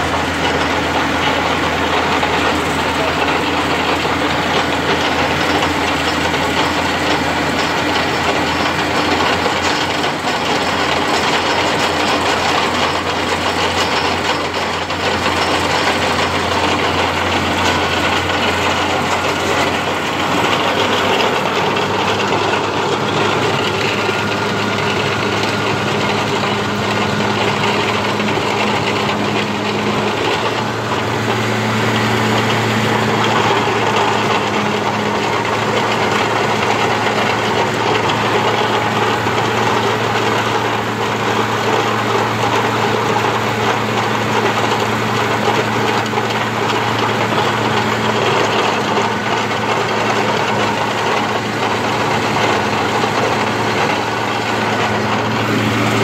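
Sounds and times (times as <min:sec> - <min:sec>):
drilling rig engine running: 0:00.0 - 0:56.0.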